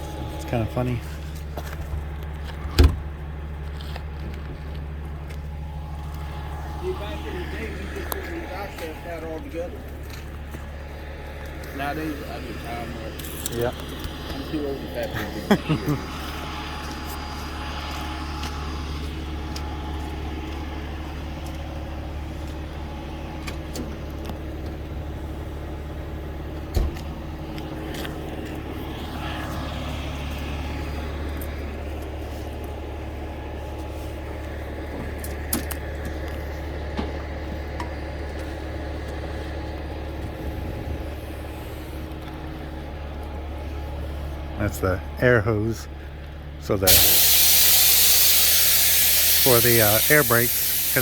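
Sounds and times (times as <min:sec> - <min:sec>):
truck engine idling: 0:00.0 - 0:51.0.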